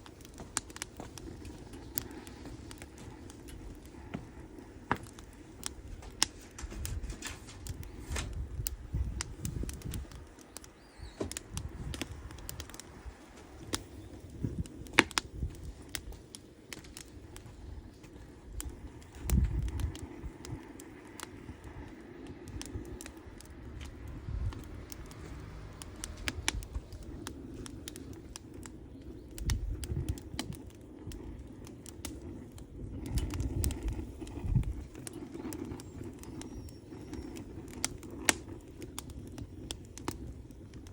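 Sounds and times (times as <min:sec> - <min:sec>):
campfire crackling: 0:00.0 - 0:40.9
fire pops and snaps: 0:00.0 - 0:40.9.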